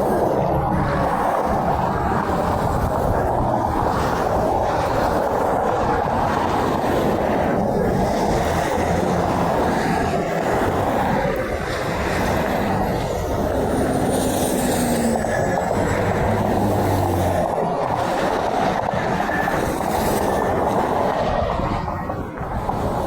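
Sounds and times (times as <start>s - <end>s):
heavy highway traffic roar: 0.0s - 23.0s
trucks passing close by: 0.0s - 23.0s.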